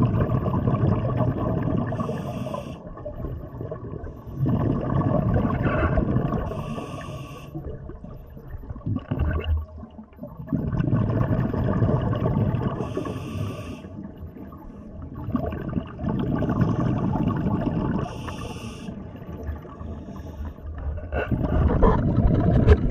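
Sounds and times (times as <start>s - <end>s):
bubbles hissing: 0.0s - 20.5s.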